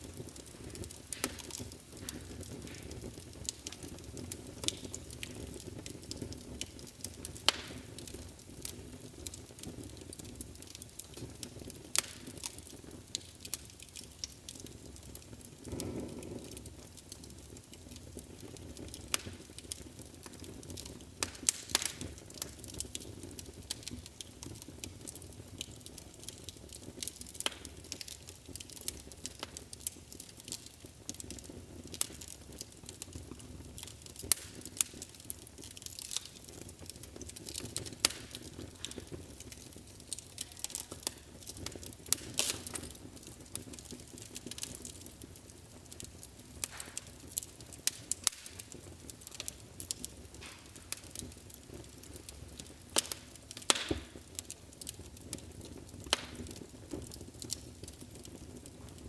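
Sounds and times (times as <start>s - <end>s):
low rush of flames: 0.0s - 59.0s
wood fire crackles and pops: 0.0s - 59.0s.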